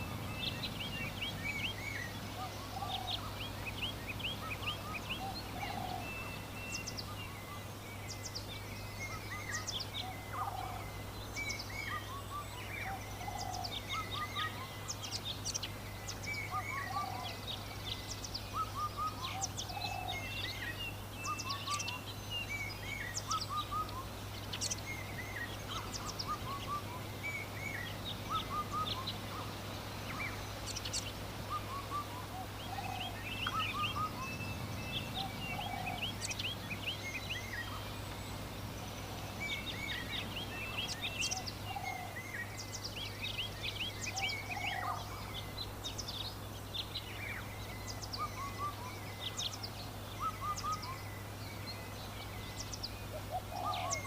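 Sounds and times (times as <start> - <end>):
birds chirping: 0.0 - 54.0
lower bird call: 0.0 - 54.0.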